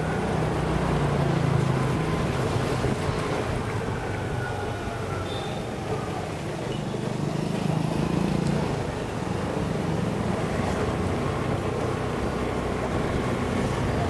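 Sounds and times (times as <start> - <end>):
road noise: 0.0 - 14.0
scooter engine running: 0.0 - 14.0.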